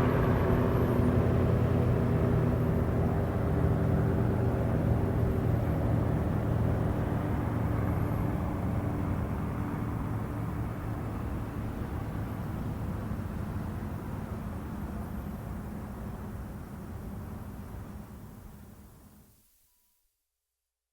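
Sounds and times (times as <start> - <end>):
helicopter flying over: 0.0 - 17.6.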